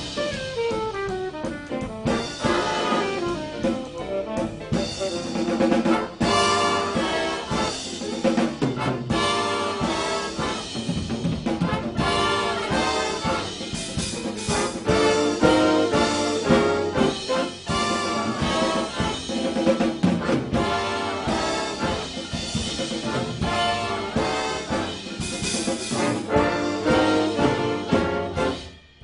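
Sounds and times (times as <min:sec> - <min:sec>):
instrumental brass band music: 0:00.0 - 0:29.0.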